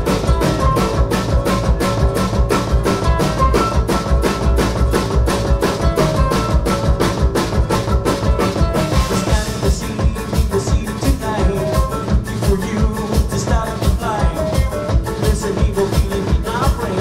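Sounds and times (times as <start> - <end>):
drum kit fast beat: 0.0 - 17.0
strummed acoustic guitar: 0.0 - 17.0
upright bass: 0.0 - 17.0.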